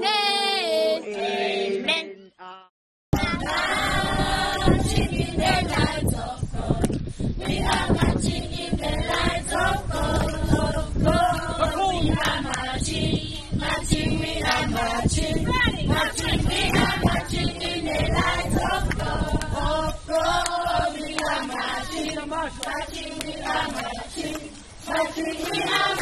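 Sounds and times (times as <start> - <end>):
children and adults singing: 0.0 - 2.5, 3.2 - 26.0.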